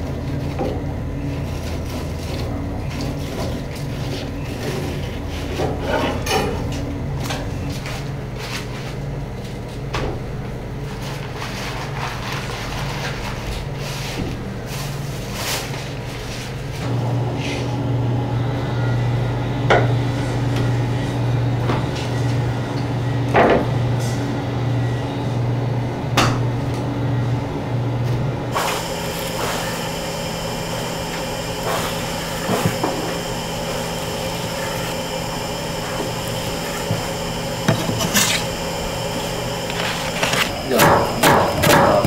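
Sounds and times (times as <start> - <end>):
low electrical hum: 0.0 - 42.0.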